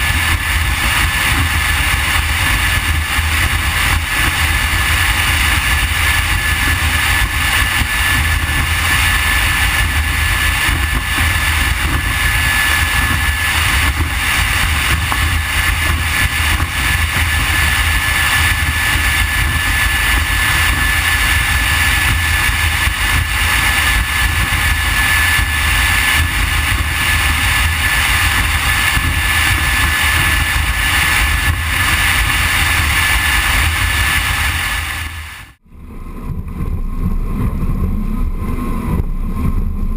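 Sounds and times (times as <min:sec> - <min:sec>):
outboard engines rumbling: 0:00.0 - 0:39.9
thin steady whine: 0:00.0 - 0:39.9.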